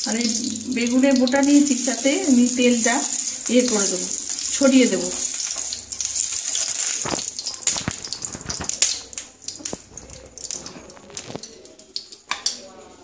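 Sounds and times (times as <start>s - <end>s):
oil sizzling on hot pan: 0.0s - 12.6s.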